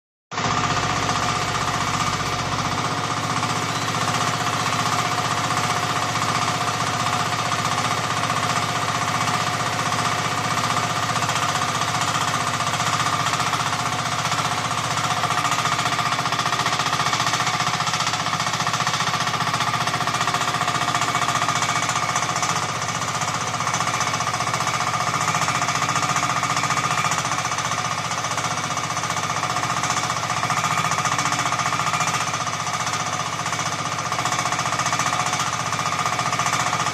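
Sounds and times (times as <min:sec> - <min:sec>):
diesel engine running: 0:00.4 - 0:36.9.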